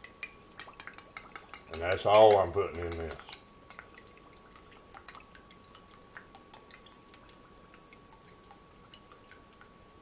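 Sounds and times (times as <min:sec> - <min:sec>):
sauce dripping into cup: 0:00.0 - 0:09.8.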